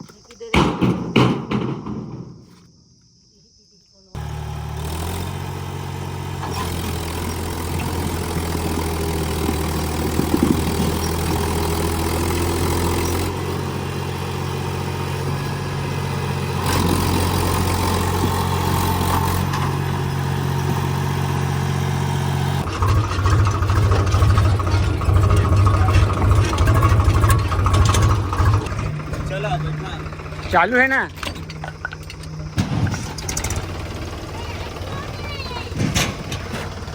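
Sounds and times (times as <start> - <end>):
tractor diesel engine running: 4.2 - 36.9.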